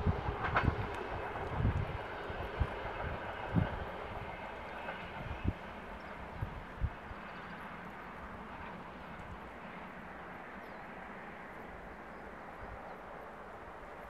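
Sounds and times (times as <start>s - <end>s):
passing train hiss: 0.0s - 14.0s.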